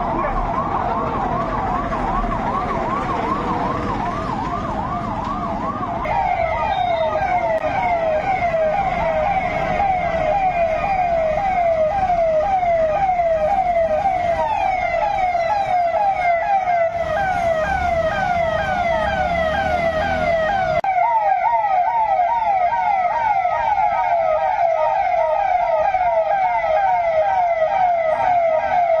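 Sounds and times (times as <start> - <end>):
electronic siren wailing: 0.0 - 29.0.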